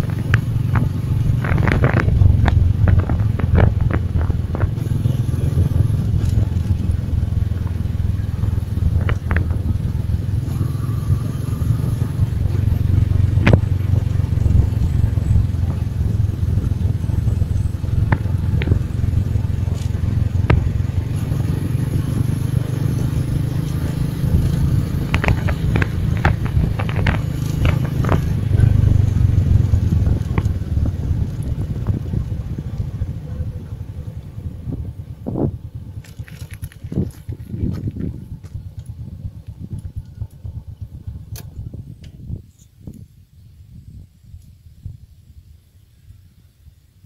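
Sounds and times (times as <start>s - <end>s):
motorcycle engine rumble: 0.0s - 47.0s.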